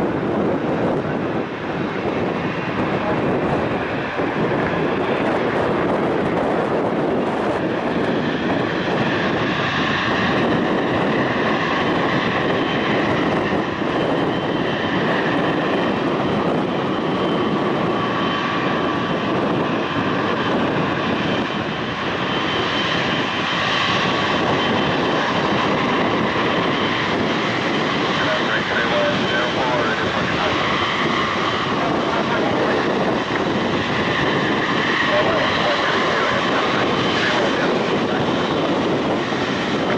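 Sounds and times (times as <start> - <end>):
airliner engines roaring: 0.0 - 39.9.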